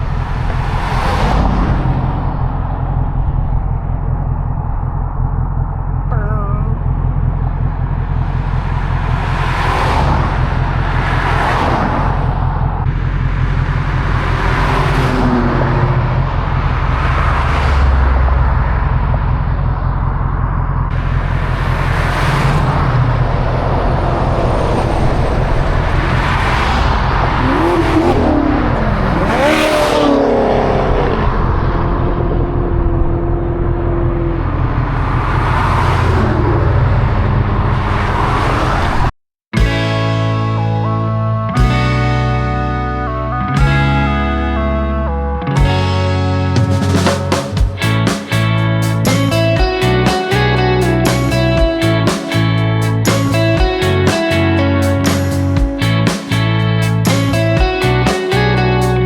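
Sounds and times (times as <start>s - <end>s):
vehicles whooshing past: 0.0s - 6.1s, 6.8s - 39.1s, 39.8s - 59.0s
car engine and road drone: 0.0s - 59.0s.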